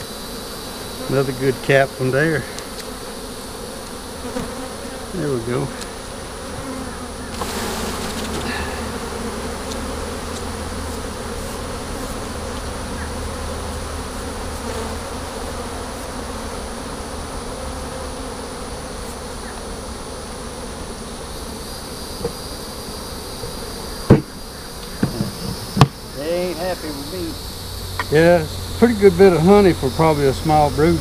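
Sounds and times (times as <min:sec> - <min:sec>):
honeybees buzzing: 0:00.0 - 0:31.0.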